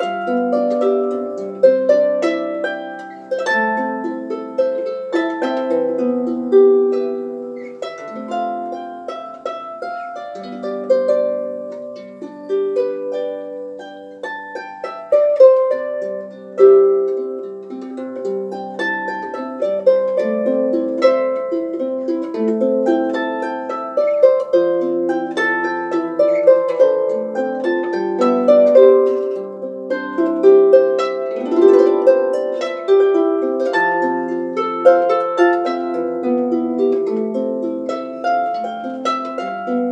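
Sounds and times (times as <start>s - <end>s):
harp plucked melody: 0.0s - 39.9s.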